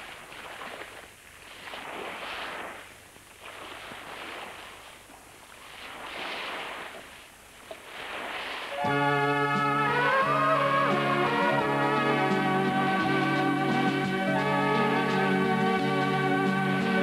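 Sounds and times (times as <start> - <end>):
sea waves surging: 0.0 - 17.0.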